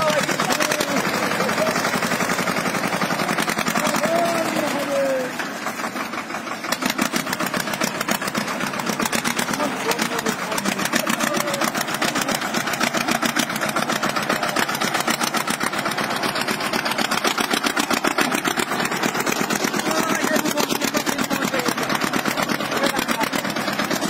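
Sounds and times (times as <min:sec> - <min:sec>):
tractor diesel engine chugging: 0:00.0 - 0:24.0.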